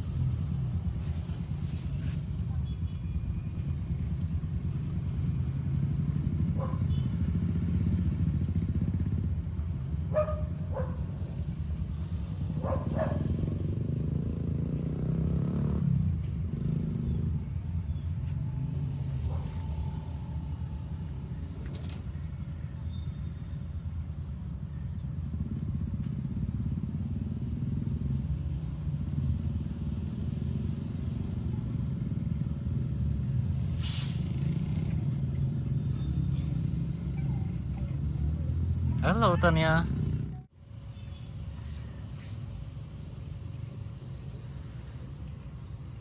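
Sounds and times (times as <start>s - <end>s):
motorcycle engines rumbling: 0.0s - 46.0s.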